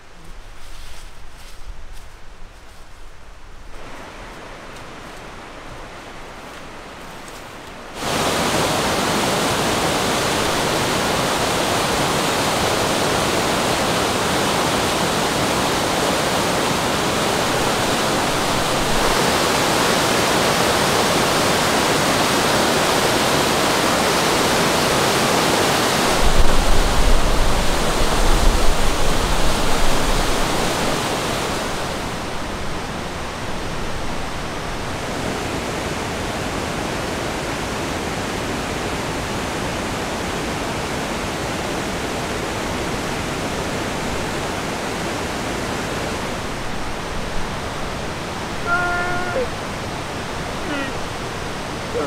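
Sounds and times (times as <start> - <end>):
rapids rushing over rocks: 3.7 - 52.0.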